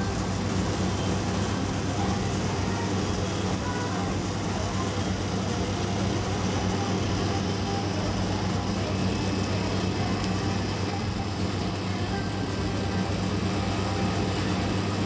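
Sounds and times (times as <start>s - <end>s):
electric hum of oil extraction machine: 0.0s - 15.0s.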